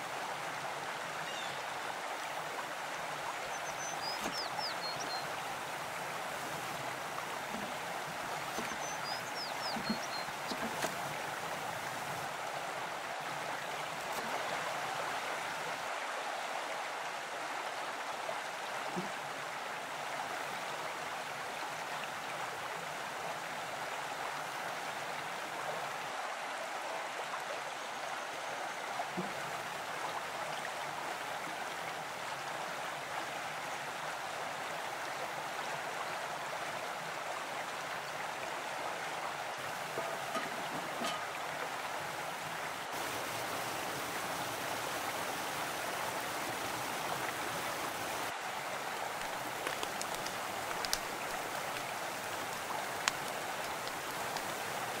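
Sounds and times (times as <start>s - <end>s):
stream rushing water: 0.0s - 55.0s.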